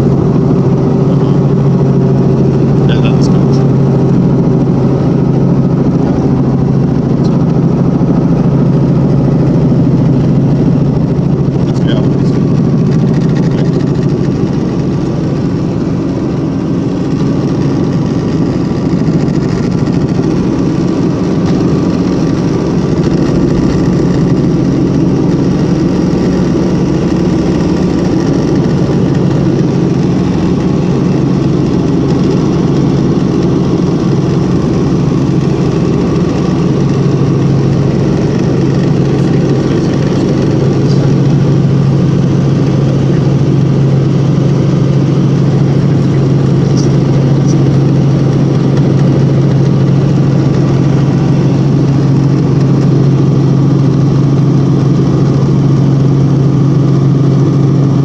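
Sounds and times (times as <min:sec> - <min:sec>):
helicopter engine and rotors drone: 0:00.0 - 0:58.0
low hum: 0:00.0 - 0:58.0.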